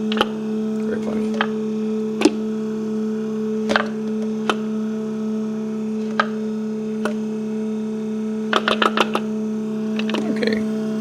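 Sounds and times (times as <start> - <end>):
electric pump humming: 0.0 - 11.0.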